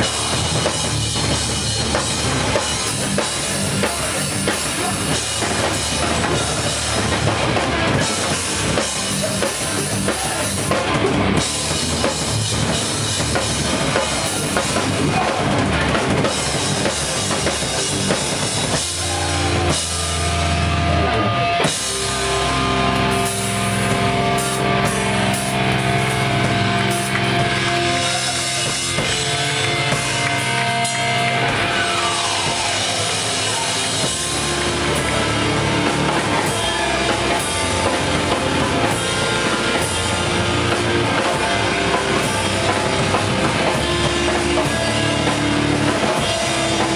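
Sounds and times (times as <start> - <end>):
distorted guitars: 0.0 - 46.9
fast drumming: 0.0 - 46.9
hardcore band playing live: 0.0 - 46.9.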